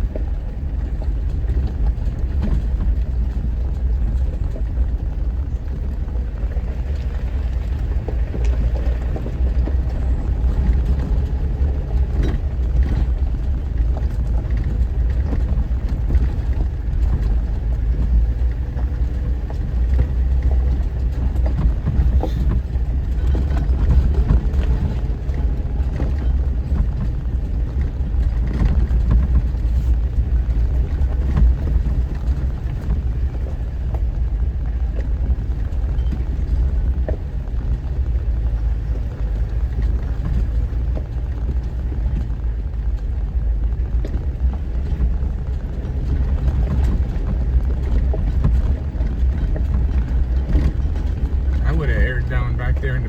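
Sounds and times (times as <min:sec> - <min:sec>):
light knocks and rattles: 0:00.0 - 0:52.1
vehicle engine rumble: 0:00.0 - 0:53.0.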